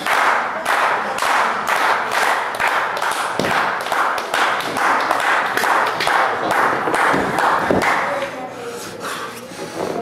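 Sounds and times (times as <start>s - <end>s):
crowd clapping in unison: 0.0s - 8.3s.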